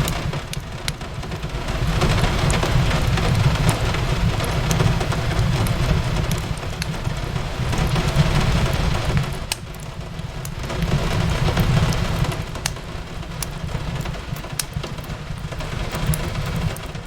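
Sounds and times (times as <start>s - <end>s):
rain on a window: 0.0s - 17.0s
wood fire crackling and popping: 0.0s - 17.0s.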